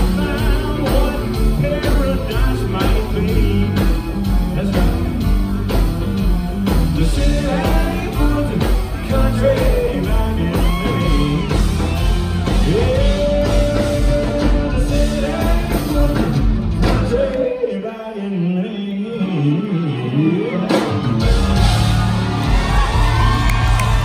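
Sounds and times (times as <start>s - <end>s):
drum beat: 0.0s - 17.1s, 21.2s - 24.0s
live country band playing: 0.0s - 24.0s.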